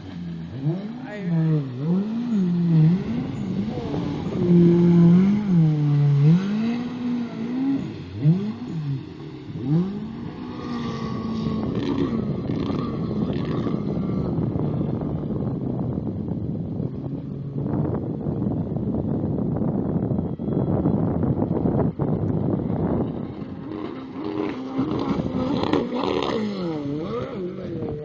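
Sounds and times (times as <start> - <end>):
jet ski engine revving: 0.0 - 18.1, 21.8 - 28.0
rushing water wash: 0.0 - 28.0.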